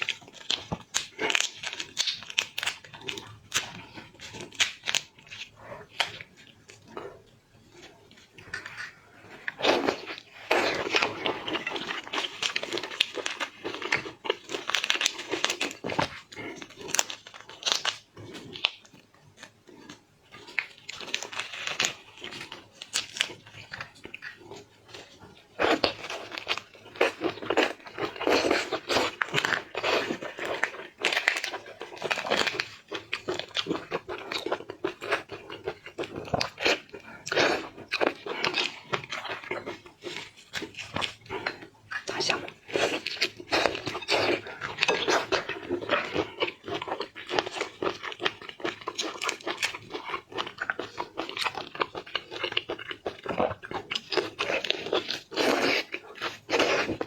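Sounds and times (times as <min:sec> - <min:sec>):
crunching and chewing seafood: 0:00.0 - 0:57.0.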